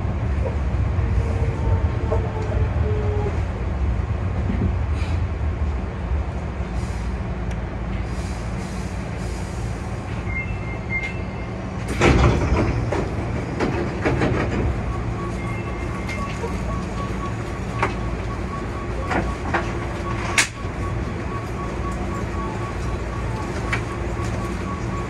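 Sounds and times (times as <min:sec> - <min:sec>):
train low hum: 0:00.0 - 0:25.0.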